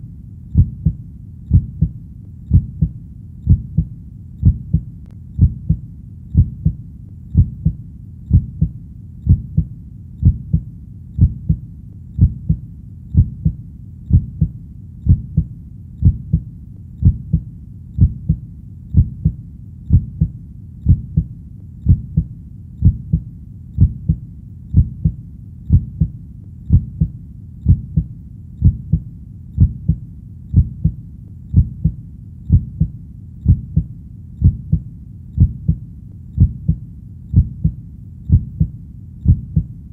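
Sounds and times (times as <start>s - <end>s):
heartbeat thuds: 0.0s - 39.8s.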